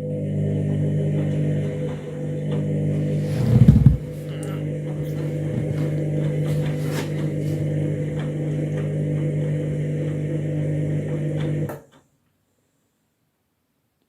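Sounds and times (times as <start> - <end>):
washing machine running: 0.0 - 11.7.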